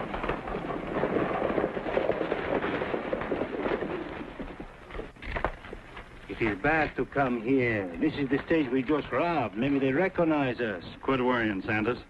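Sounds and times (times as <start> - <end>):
horses galloping on dirt: 0.0 - 12.0.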